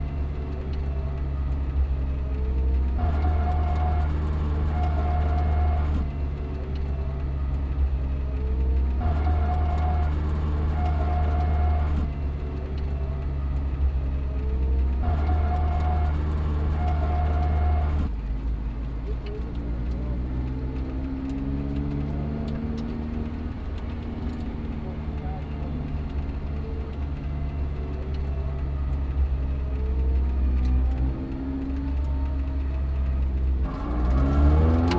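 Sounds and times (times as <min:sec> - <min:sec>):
car drivetrain drone: 0:00.0 - 0:34.9
differential gear whine: 0:00.0 - 0:34.9.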